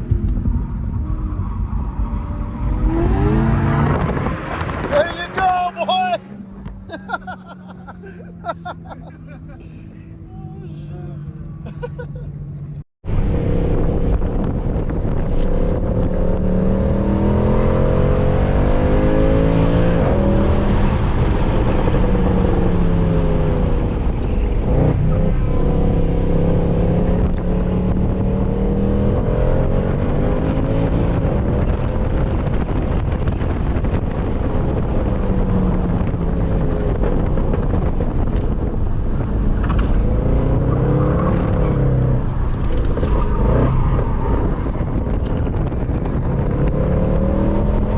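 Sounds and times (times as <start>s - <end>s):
car engine accelerating: 0.0s - 47.9s.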